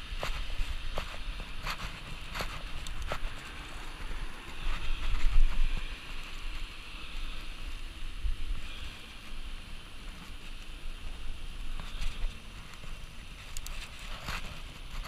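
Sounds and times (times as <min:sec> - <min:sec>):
steady hiss: 0:00.0 - 0:15.0
wind rumbling on microphone: 0:00.0 - 0:15.0.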